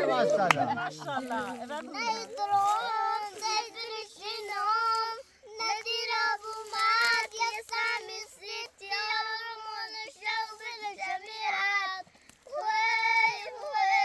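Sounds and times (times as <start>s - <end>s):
child singing: 1.4s - 14.0s.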